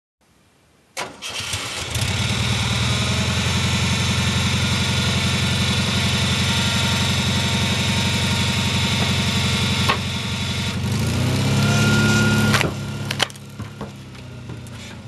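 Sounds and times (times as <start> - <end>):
air-cooled engine running: 1.2 - 15.0.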